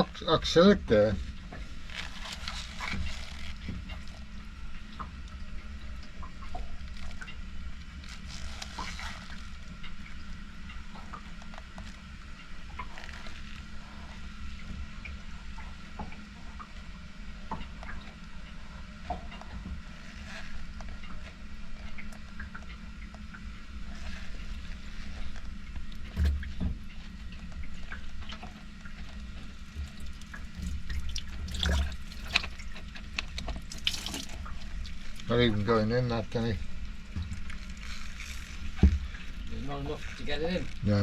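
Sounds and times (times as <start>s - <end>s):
liquid trickling and splashing: 0.0s - 41.0s.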